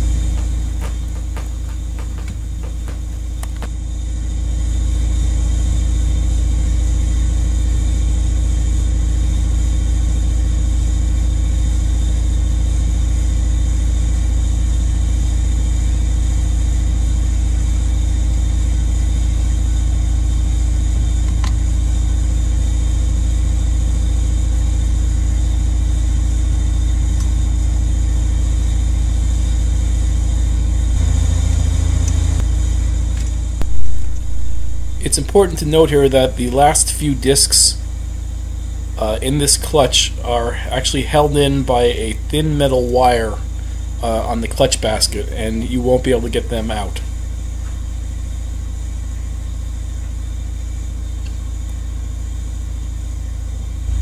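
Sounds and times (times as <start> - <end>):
machine droning: 0.0 - 54.0.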